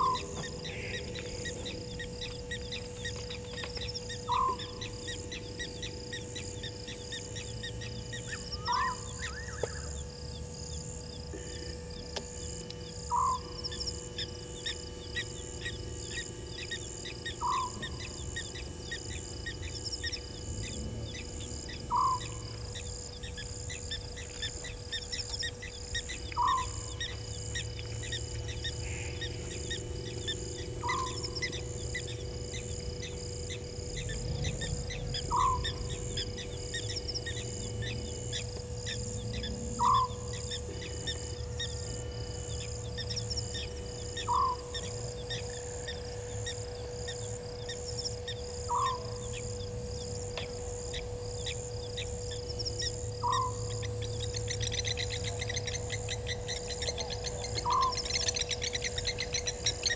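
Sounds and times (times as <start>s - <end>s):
night bird call: 0.0s - 12.1s, 12.8s - 59.9s
crickets and insects chirping: 0.0s - 59.9s.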